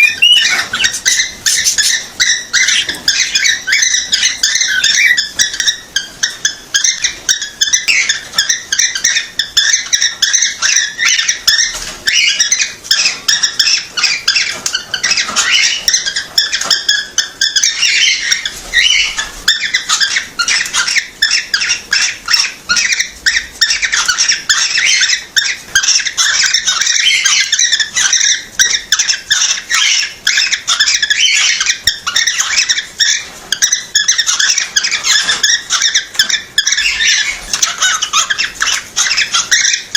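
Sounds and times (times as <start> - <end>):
cockatiels chirping and whistling: 0.0 - 39.9.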